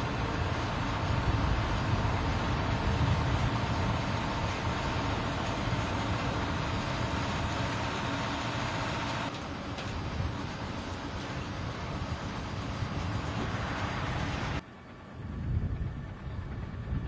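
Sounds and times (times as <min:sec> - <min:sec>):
faint steady whine: 0:00.0 - 0:17.0
heavy engines running: 0:00.0 - 0:17.0.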